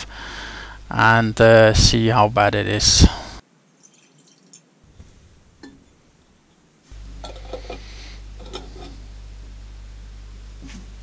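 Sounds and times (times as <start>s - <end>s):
steady low hum: 0.0s - 4.0s, 4.7s - 11.0s.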